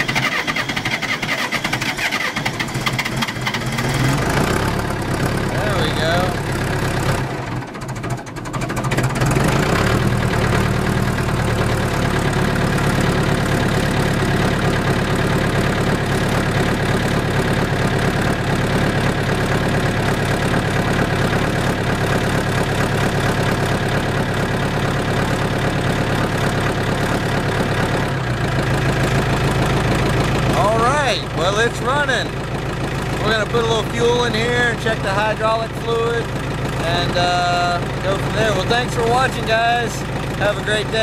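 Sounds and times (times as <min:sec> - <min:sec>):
backhoe engine starting and running: 0:00.0 - 0:41.0.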